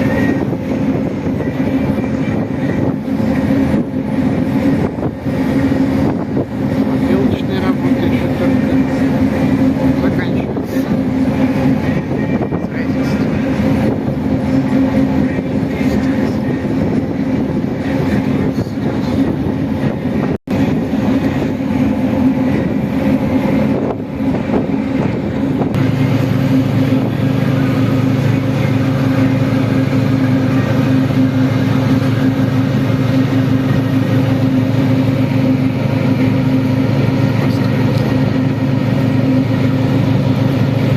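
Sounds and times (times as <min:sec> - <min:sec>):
boat engine droning: 0:00.0 - 0:40.9
deeper hum: 0:00.0 - 0:40.9.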